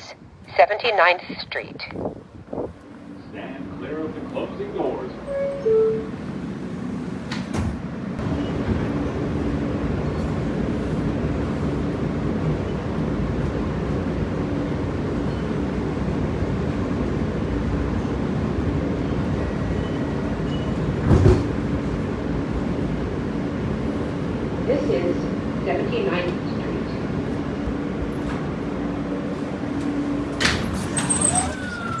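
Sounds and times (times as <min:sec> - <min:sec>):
subway train wheels rumbling on rail: 0:01.6 - 0:32.0.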